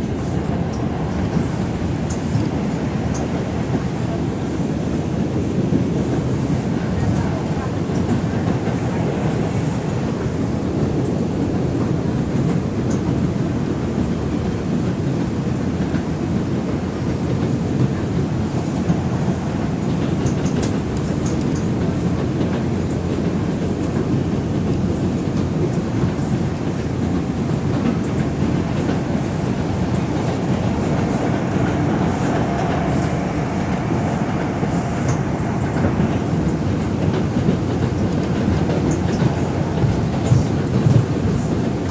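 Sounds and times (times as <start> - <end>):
wheels rumbling on rail: 0.0 - 41.9.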